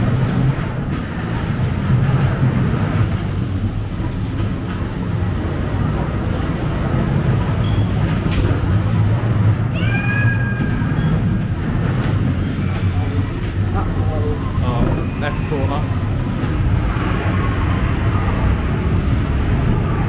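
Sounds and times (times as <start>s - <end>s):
ride car rumbling along track: 0.0s - 20.0s.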